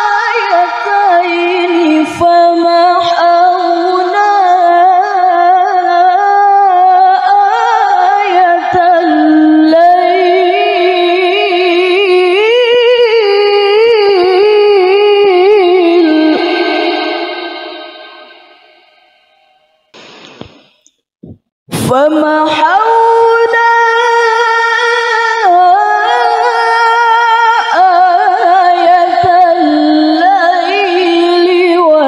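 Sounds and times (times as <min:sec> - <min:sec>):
woman reciting melodically: 0:00.0 - 0:18.0, 0:21.3 - 0:32.0.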